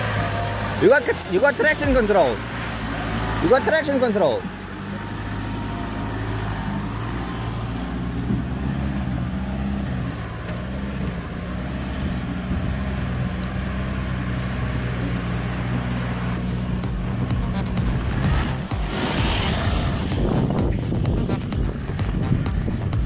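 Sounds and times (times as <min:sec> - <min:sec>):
vehicle engine low drone: 0:00.0 - 0:23.0.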